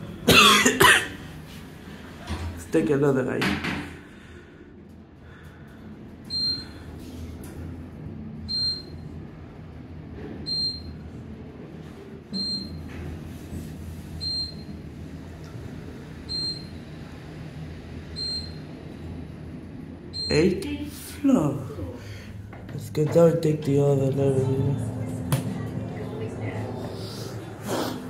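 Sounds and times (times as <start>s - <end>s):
elevator car hum: 0.0s - 28.0s.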